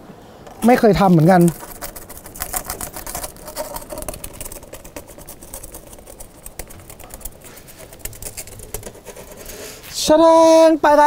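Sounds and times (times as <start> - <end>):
fire crackling: 0.1 - 10.1.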